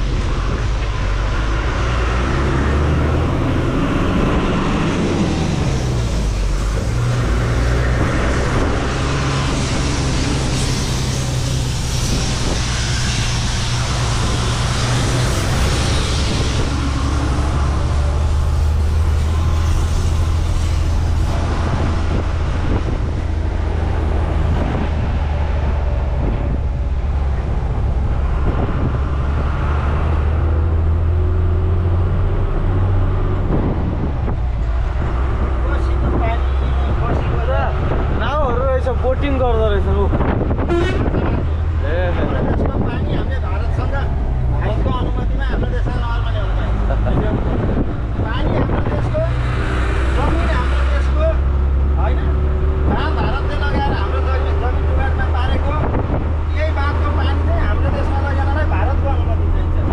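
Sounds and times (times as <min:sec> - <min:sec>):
road and wind noise: 0:00.0 - 0:59.9
truck diesel engine running: 0:00.0 - 0:59.9.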